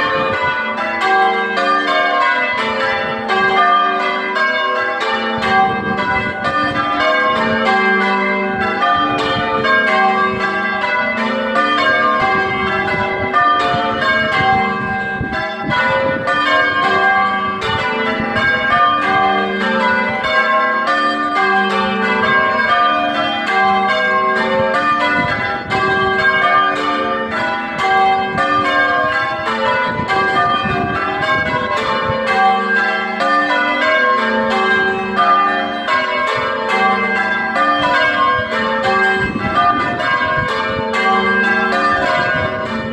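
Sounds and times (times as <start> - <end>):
church bells ringing: 0.0 - 42.9.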